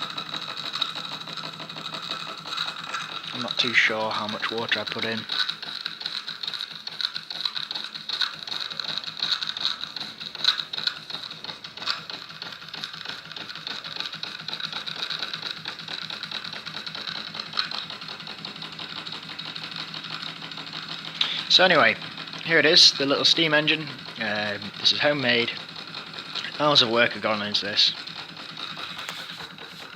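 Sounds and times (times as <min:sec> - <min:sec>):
model steam engine clattering: 0:00.0 - 0:29.9.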